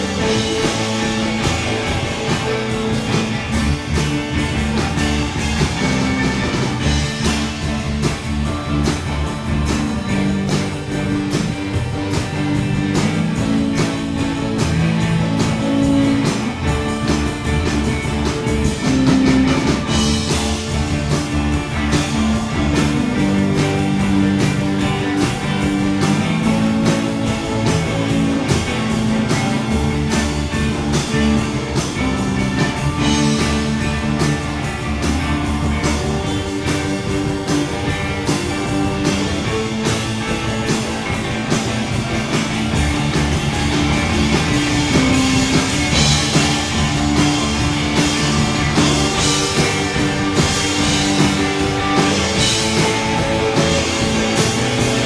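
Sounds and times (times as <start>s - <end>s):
drum kit beat: 0.0s - 55.0s
electric guitar: 0.0s - 55.0s.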